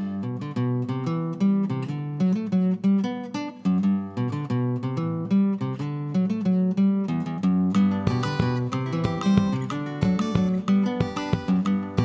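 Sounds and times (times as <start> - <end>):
acoustic guitar plucked notes: 0.0 - 12.0.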